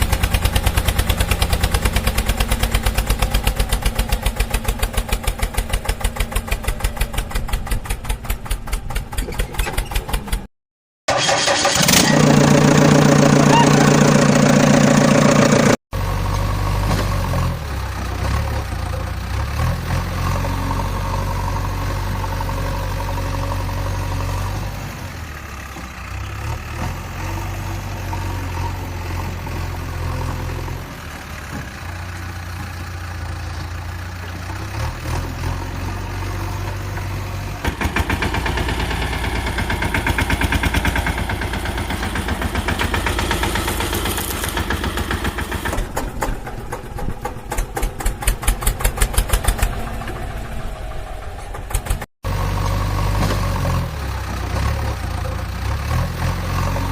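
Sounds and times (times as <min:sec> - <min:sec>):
diesel engine running: 0:00.0 - 0:10.5, 0:11.2 - 0:56.9.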